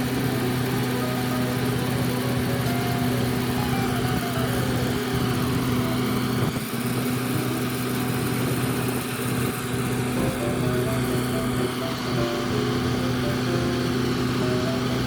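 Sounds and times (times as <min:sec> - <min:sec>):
music playing: 0:00.0 - 0:08.3, 0:09.7 - 0:15.0
engine running steadily: 0:00.0 - 0:15.0.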